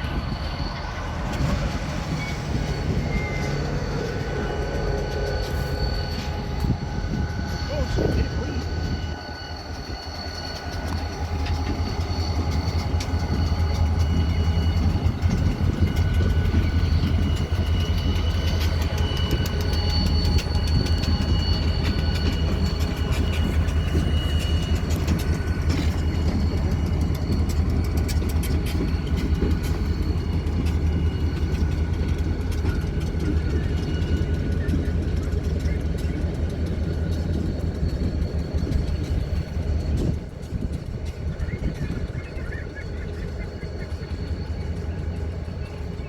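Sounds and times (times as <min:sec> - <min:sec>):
diesel locomotive engine drone: 0:00.0 - 0:46.0
high-pitched wheel squeal: 0:00.0 - 0:46.0
wheels clicking on rails: 0:00.0 - 0:46.0.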